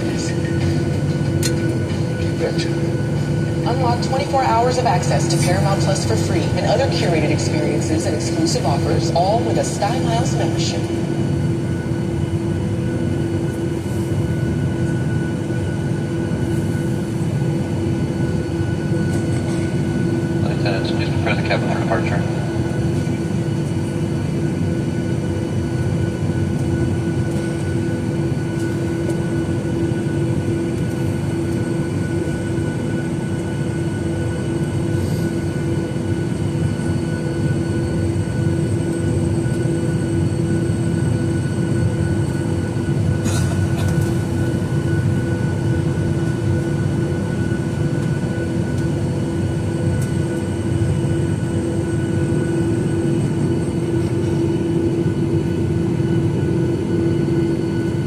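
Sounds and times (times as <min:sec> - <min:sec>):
airplane cabin engine hum: 0:00.0 - 0:58.0.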